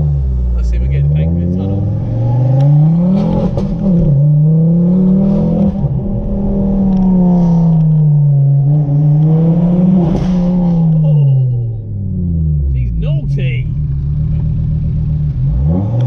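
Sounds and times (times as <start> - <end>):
car engine accelerating hard: 0.0 - 16.0
exhaust crackle: 1.8 - 16.0.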